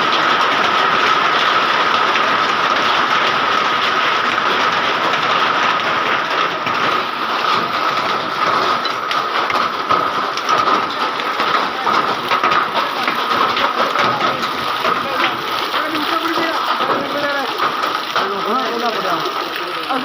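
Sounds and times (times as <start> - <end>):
hailstone impacts: 0.0 - 20.0
heavy rain hiss: 0.0 - 20.0.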